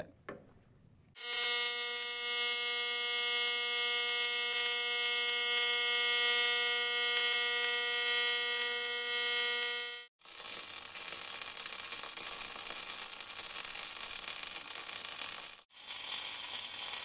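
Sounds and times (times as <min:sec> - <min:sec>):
welding arc buzzing and hissing: 0:01.2 - 0:17.0.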